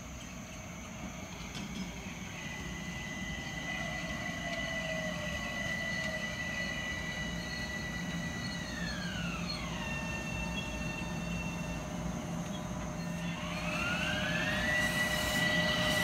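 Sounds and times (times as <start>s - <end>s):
train electric whine: 0.0s - 16.0s.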